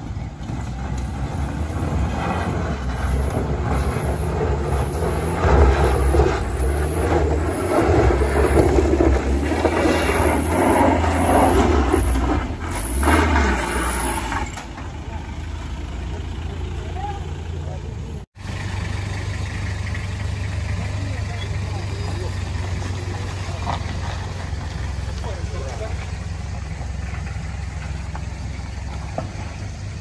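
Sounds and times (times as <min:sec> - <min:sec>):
truck engine labouring uphill: 0:00.0 - 0:30.0.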